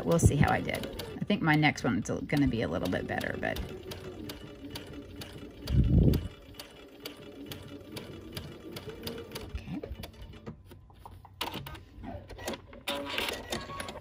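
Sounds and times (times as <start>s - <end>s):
sewing machine stitching: 0.0s - 10.5s, 11.4s - 14.0s.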